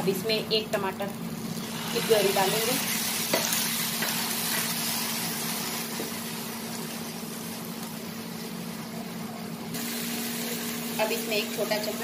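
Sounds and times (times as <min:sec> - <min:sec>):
onions sizzling in a pan: 0:01.0 - 0:09.2, 0:09.8 - 0:12.0.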